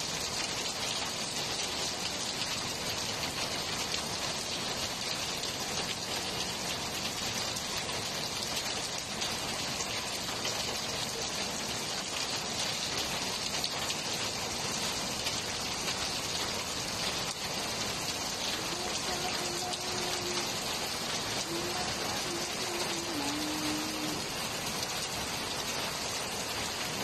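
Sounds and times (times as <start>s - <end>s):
rain on a concrete roof: 0.0s - 27.0s.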